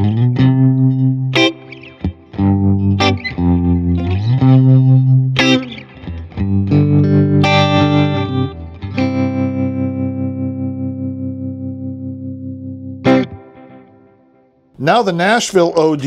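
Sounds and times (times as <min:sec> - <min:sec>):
electric guitar with tremolo: 0:00.0 - 0:14.7.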